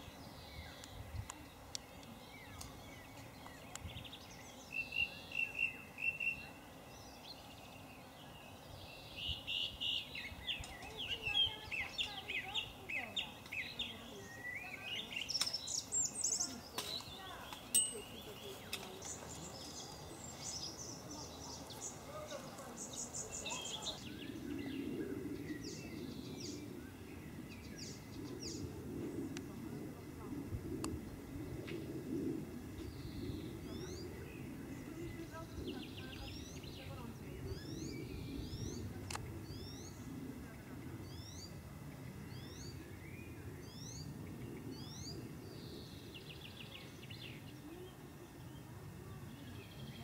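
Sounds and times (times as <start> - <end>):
faint outdoor background noise: 0.0 - 50.0
small birds chirping: 0.0 - 50.0
steady low hum: 0.0 - 50.0.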